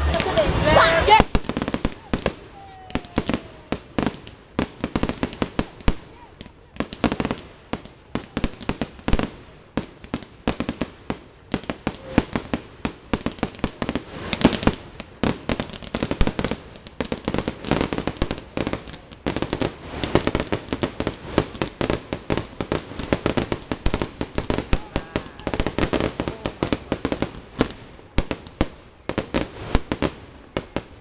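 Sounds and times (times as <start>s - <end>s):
fireworks bangs and pops: 0.0s - 31.0s.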